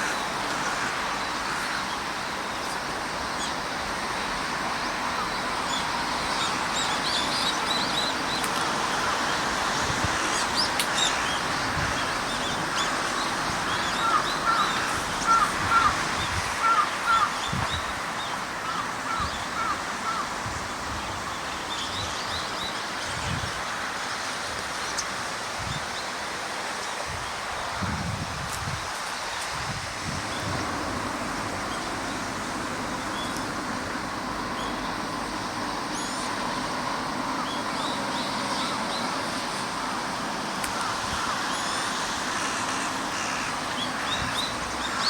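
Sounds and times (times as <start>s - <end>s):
wild birds calling: 0.0s - 27.8s, 30.2s - 45.0s
steady background hiss: 0.0s - 45.0s.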